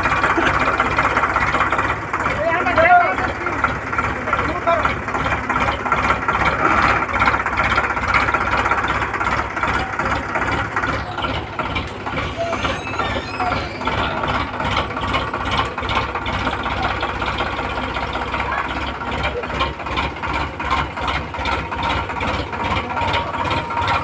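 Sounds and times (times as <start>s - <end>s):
tractor diesel engine chugging: 0.0s - 24.0s.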